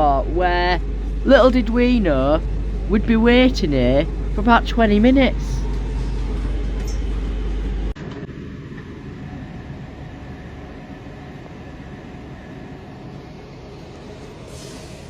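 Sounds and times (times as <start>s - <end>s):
heavy low rumble: 0.0s - 14.3s
train hum: 0.0s - 15.0s.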